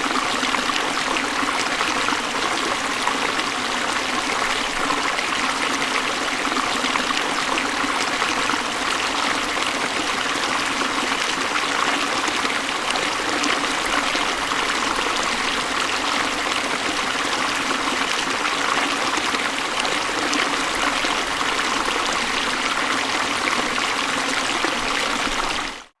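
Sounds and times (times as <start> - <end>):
river water flowing over stones: 0.0 - 25.9.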